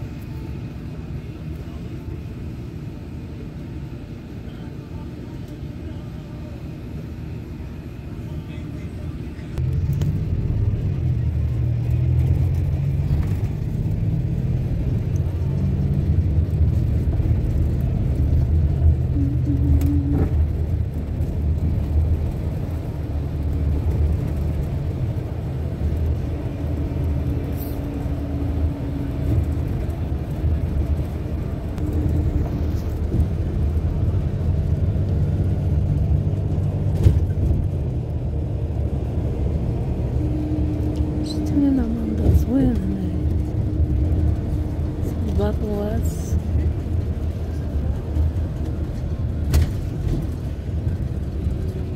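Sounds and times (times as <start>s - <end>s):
vehicle engine and road noise: 0.0s - 51.9s.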